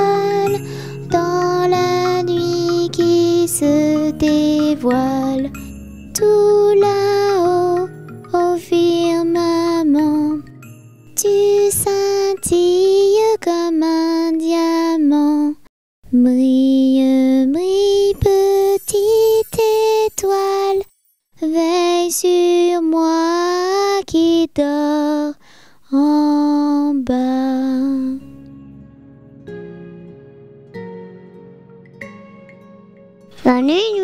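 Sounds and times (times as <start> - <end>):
woman singing a lullaby: 0.0 - 28.4, 33.3 - 34.0.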